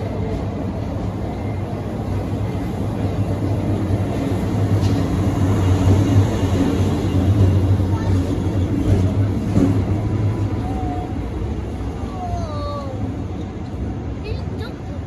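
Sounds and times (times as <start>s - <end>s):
electric locomotive humming: 0.0s - 15.0s
train rolling past: 0.0s - 15.0s.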